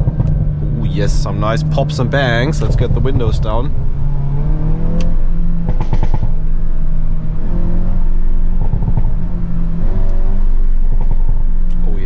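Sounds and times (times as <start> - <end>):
car engine and exhaust: 0.0 - 12.0
exhaust cracks: 0.0 - 12.0.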